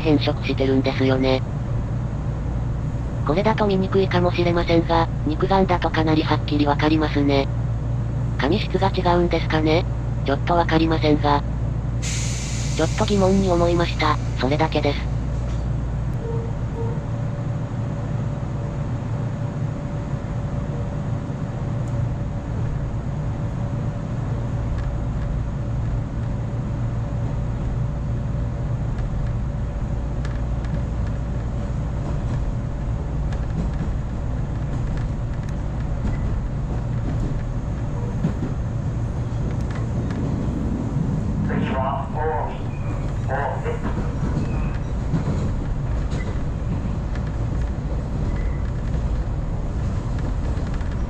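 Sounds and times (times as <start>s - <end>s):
train running gear rumble: 0.0s - 51.0s.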